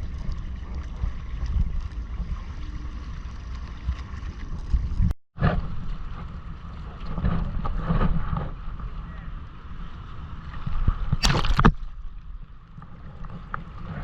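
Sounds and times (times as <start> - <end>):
water splashing against hull: 0.0 - 14.0.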